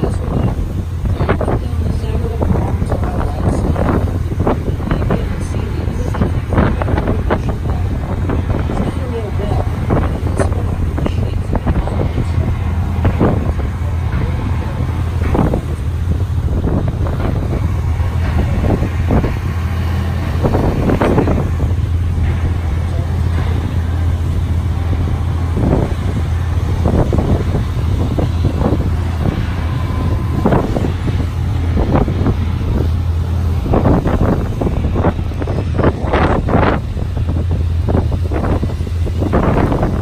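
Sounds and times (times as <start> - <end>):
vehicle engine hum: 0.0 - 40.0
wind buffeting microphone: 0.0 - 40.0.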